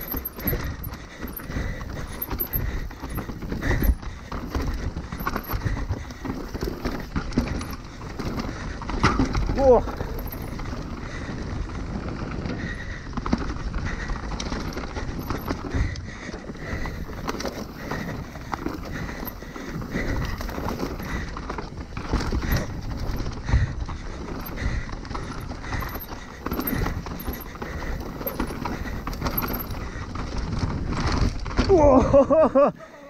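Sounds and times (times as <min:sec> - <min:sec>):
bike knocks and rattles: 0:00.0 - 0:32.7
bike tyres rolling on dirt: 0:00.0 - 0:33.0.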